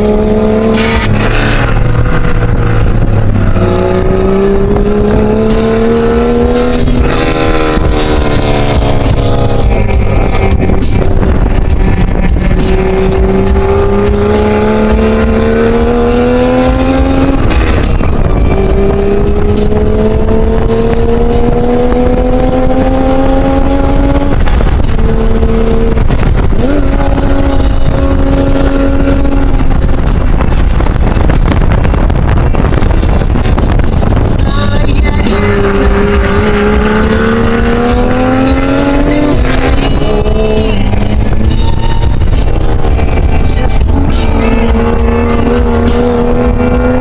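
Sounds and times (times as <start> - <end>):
car engine accelerating: 0.0 - 47.0
road and wind noise: 0.0 - 47.0.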